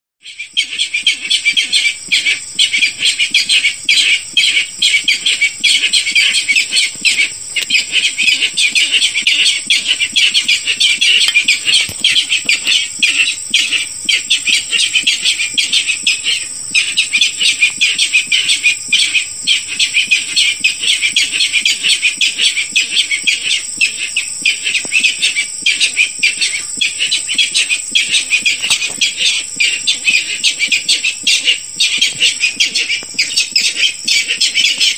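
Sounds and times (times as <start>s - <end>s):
rail bird lure call: 0.6s - 34.9s.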